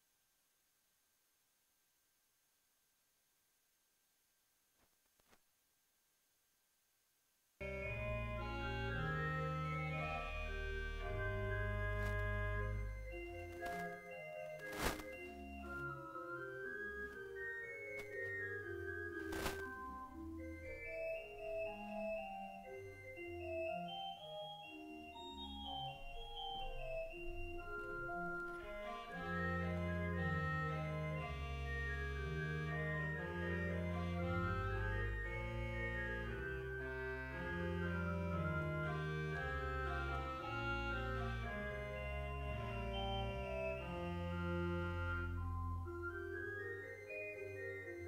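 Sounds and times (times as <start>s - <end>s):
church organ playing: 7.6s - 48.0s.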